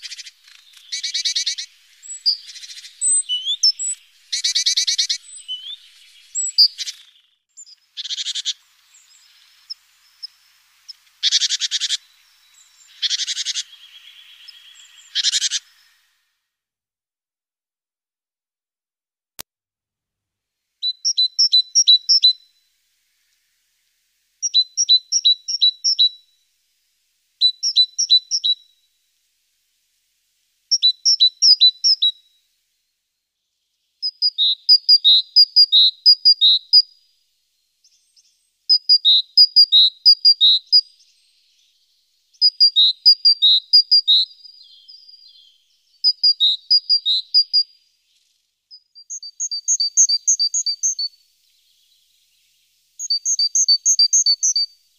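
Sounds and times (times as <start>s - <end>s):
songbird singing: 0.0s - 16.3s, 20.8s - 54.9s.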